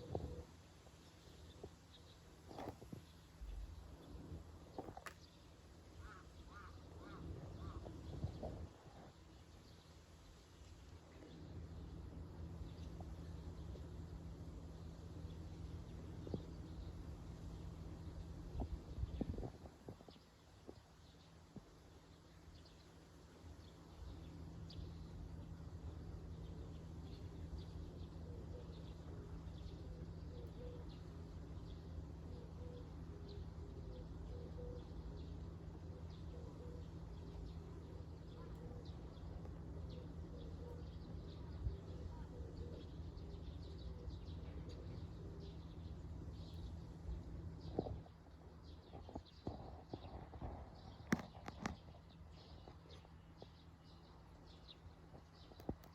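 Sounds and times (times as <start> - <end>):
low outdoor rumble: 0.0 - 55.9
small birds chirping: 0.0 - 55.9.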